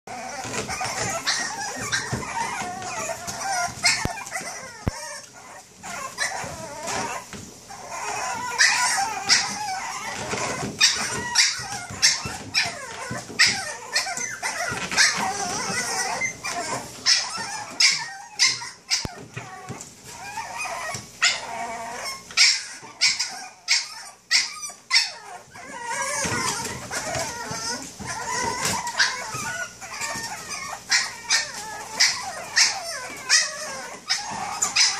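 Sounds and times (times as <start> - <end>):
puppies yipping and barking: 0.1 - 34.9.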